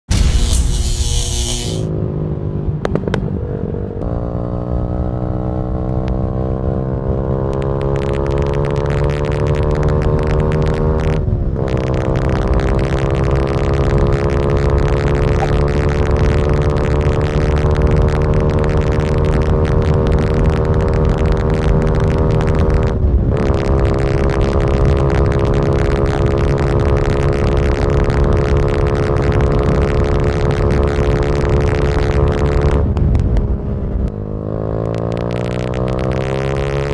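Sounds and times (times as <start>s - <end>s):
motorcycle engine revving through gears: 0.0s - 36.9s.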